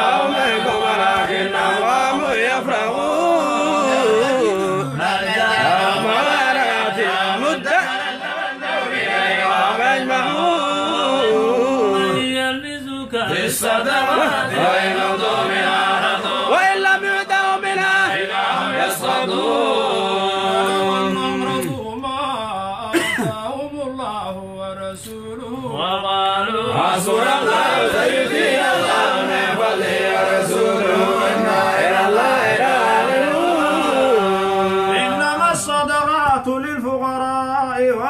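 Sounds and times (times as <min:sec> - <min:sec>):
men chanting together: 0:00.0 - 0:22.0, 0:25.7 - 0:36.6.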